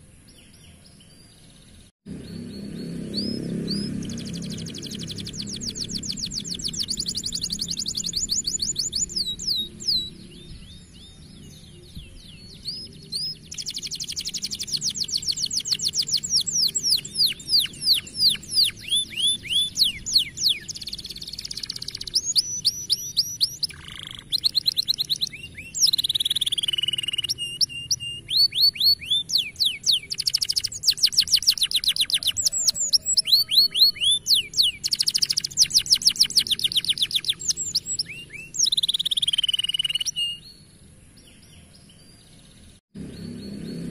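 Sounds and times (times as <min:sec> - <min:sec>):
canary singing: 0:01.4 - 0:40.7.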